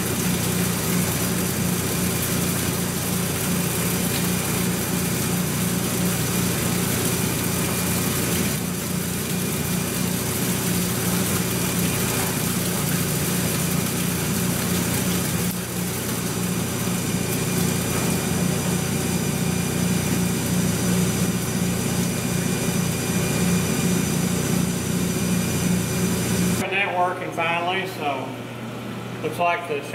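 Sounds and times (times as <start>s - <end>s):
coolant flowing: 0.0s - 26.7s
lathe machine hum: 0.0s - 26.7s.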